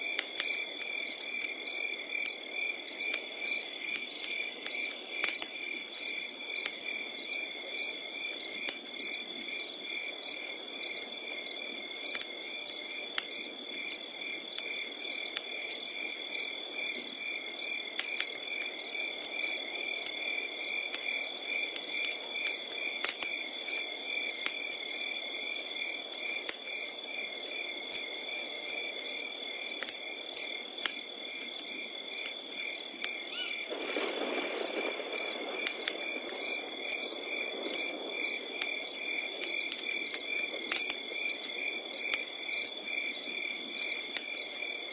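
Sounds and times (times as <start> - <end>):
campfire crackling: 0.0 - 44.9
crickets chirping: 0.0 - 44.9.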